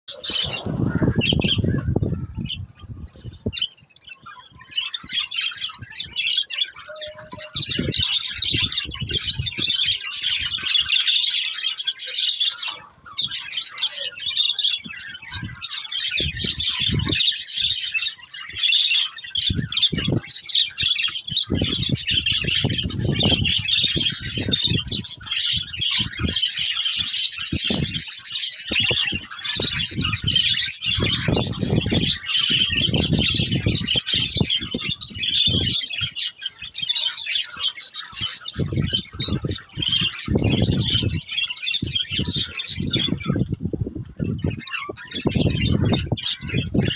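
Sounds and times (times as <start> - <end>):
budgerigars chattering: 0.1 - 43.5, 44.1 - 46.9.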